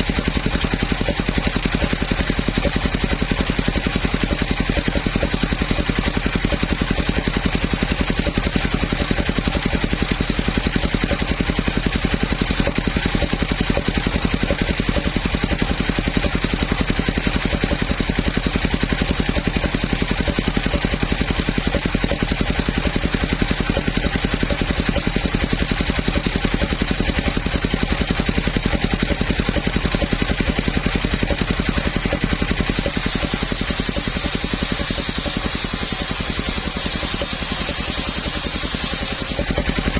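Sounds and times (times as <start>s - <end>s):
engine running sawmill: 0.0s - 39.9s.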